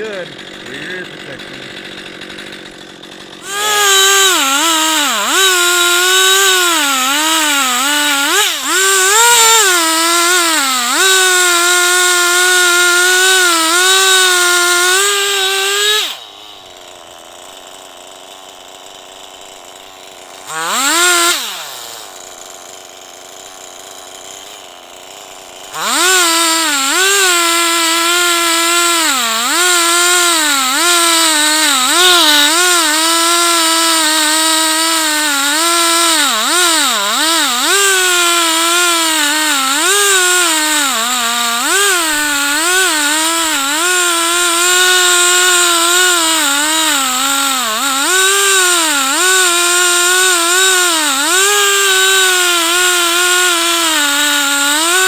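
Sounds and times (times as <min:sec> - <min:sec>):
chainsaw ripping a log: 0:00.0 - 0:55.0.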